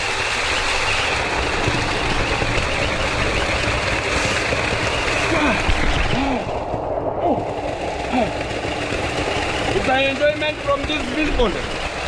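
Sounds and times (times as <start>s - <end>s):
water gushing into pond: 0.0s - 12.0s.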